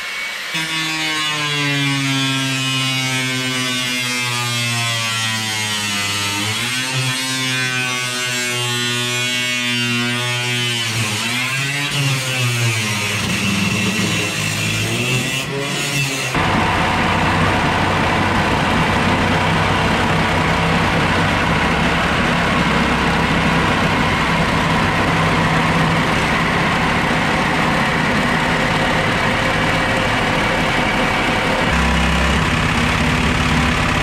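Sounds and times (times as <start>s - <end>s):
power tool cutting sheet metal: 0.0s - 34.0s.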